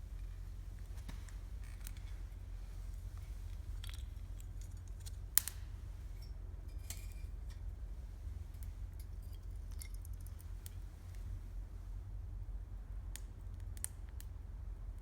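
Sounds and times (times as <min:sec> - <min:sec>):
campfire crackling: 0:00.0 - 0:11.9, 0:13.1 - 0:14.3
low fire rumble: 0:00.0 - 0:15.0.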